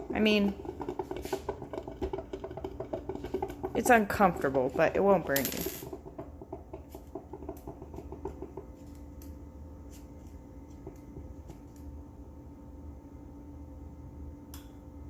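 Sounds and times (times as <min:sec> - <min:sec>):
coffee maker sputtering and gurgling: 0:00.0 - 0:14.1
faint steady hum: 0:00.0 - 0:15.0.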